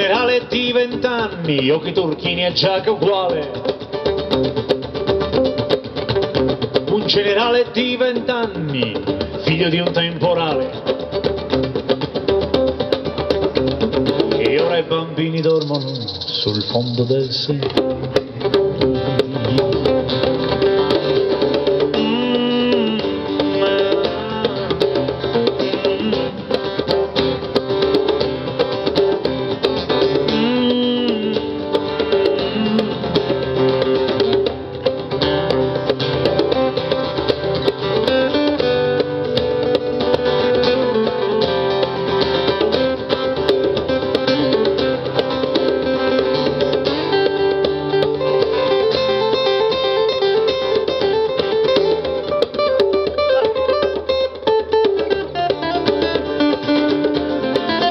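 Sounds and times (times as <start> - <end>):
acoustic guitars playing: 0.0 - 57.9
hand drum: 0.0 - 57.9.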